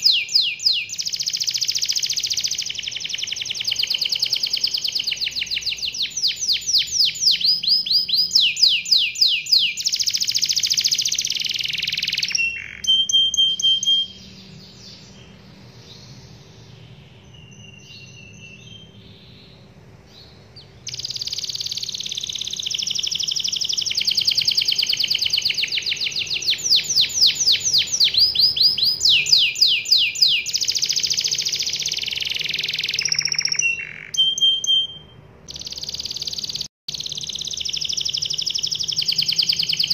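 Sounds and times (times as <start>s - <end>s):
canary singing trills: 0.0s - 39.9s
faint bird chirps: 0.0s - 39.9s.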